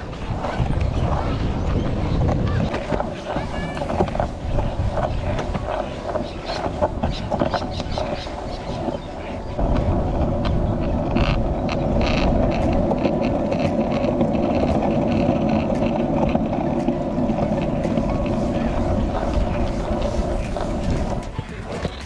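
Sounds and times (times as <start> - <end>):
skateboard wheels rolling on concrete: 0.0 - 22.0
wind on microphone: 0.0 - 22.0.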